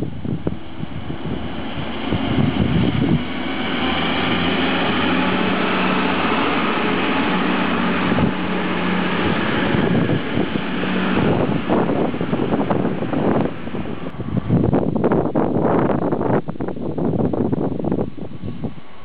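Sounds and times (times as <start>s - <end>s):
diesel engine humming: 0.0s - 19.0s
train wheels rumbling on rails: 0.0s - 19.0s.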